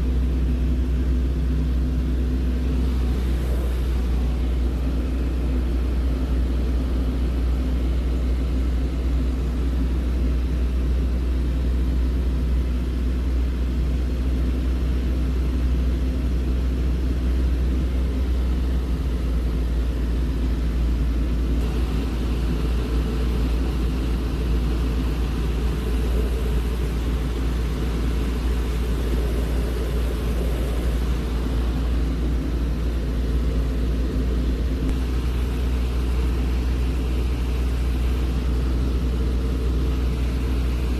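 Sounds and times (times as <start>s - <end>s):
small airplane engine drone: 0.0s - 40.9s.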